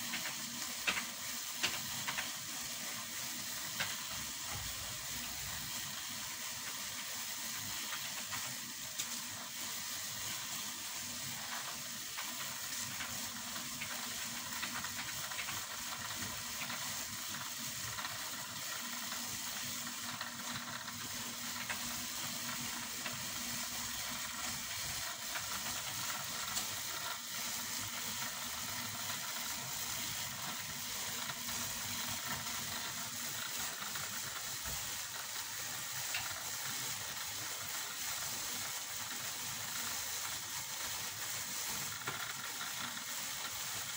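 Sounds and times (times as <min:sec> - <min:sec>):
faint scattered crackles: 0:00.0 - 0:04.8, 0:05.8 - 0:43.9
steady hiss: 0:00.0 - 0:43.9.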